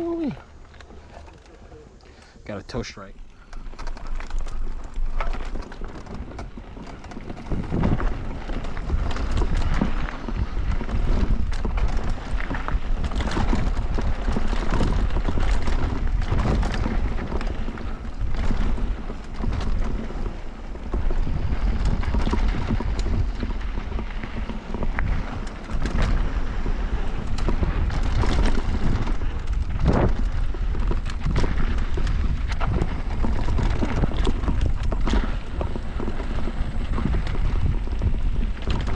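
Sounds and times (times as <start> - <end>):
bike rattling and knocking: 0.0 - 38.9
tyres rolling on dirt: 0.0 - 38.9
wind buffeting microphone: 1.8 - 38.9.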